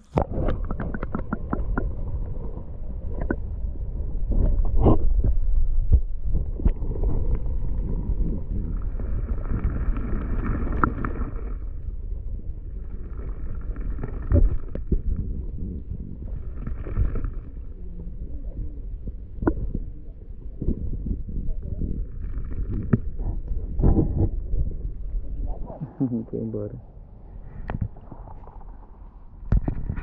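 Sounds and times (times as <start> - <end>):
underwater rumble of moving water: 0.0 - 30.0.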